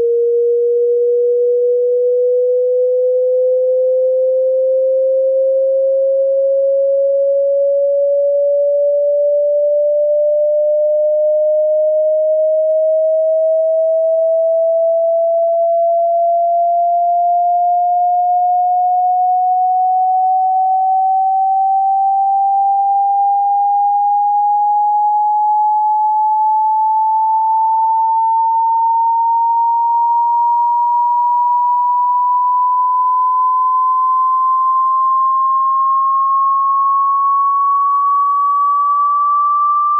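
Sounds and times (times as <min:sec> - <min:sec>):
rising sine tone: 0:00.0 - 0:39.9.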